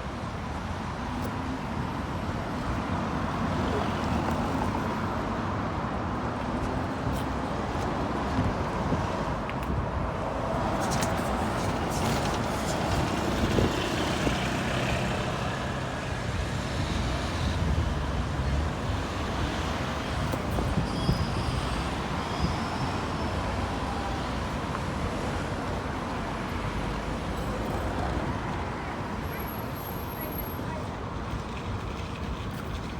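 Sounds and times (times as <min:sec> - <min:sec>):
road traffic passing: 0:00.0 - 0:32.9.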